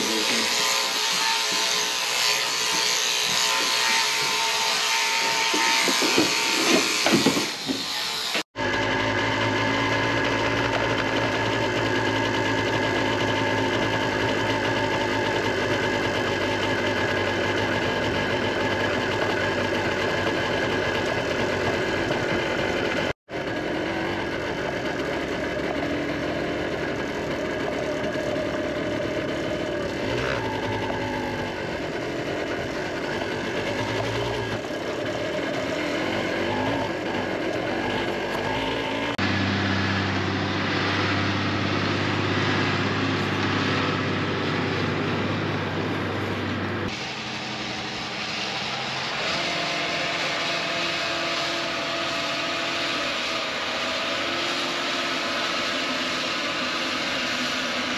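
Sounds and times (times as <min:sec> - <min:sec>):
vehicle engine running: 0:08.6 - 0:57.9.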